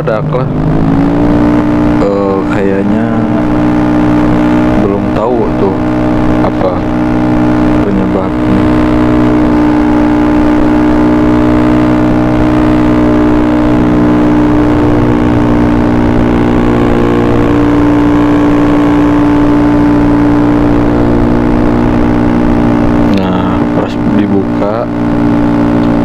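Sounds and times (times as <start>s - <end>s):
scooter engine running steadily: 0.0s - 26.0s.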